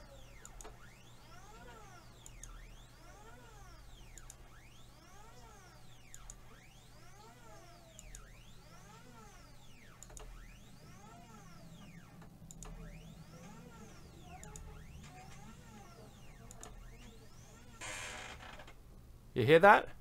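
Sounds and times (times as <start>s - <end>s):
stepper motor whine: 0.0s - 18.6s.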